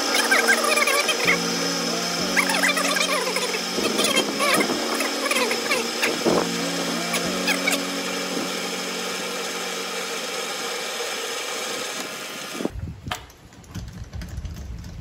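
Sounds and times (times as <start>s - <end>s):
lathe motor hum and hiss: 0.0s - 12.7s.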